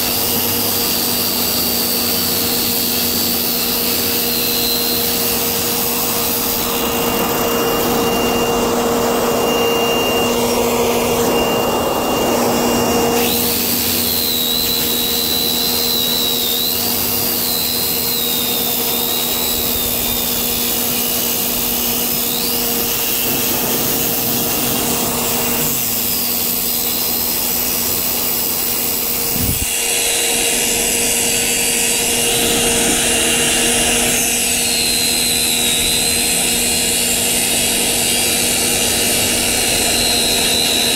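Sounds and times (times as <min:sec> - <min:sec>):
circular saw cutting asphalt: 0:00.0 - 0:40.9
vacuum motor running: 0:00.0 - 0:40.9.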